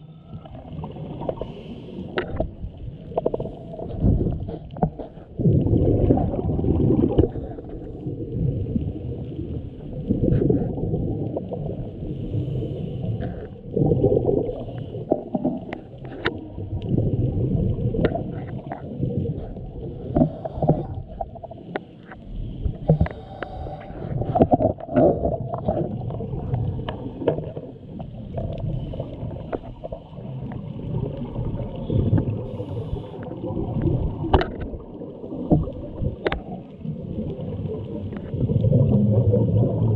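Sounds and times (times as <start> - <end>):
exhaled bubbles rumbling: 0.0 - 39.9
muffled underwater noise: 0.0 - 39.9.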